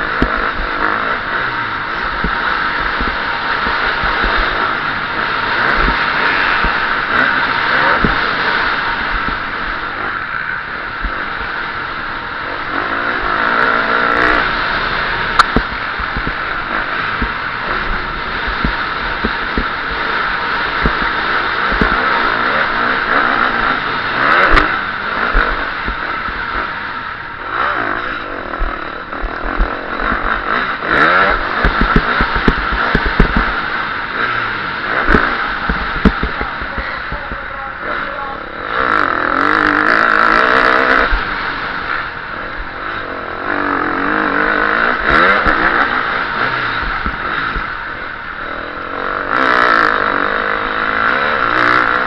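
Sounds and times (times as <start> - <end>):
motocross engine revving: 0.0 - 52.0.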